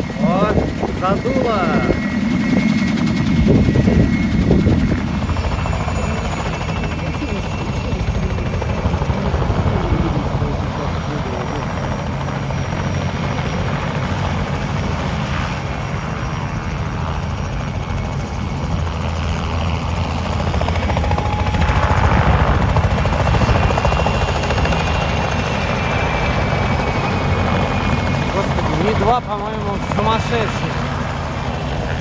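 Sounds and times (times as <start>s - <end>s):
helicopter rotor and engines: 0.0s - 32.0s
high turbine whine: 0.0s - 32.0s.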